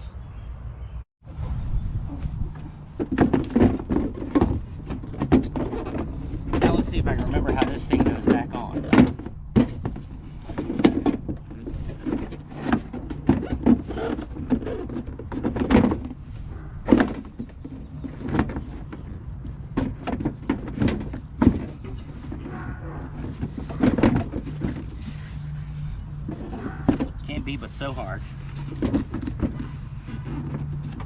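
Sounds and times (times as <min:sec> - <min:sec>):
car part knocking and rattling: 0:02.5 - 0:31.0.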